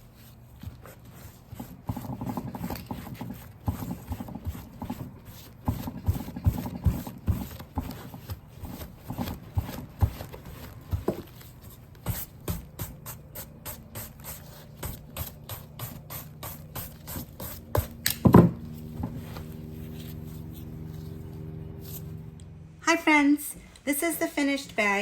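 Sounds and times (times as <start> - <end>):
brush rubbing over leather: 0.0 - 17.7, 18.8 - 22.2.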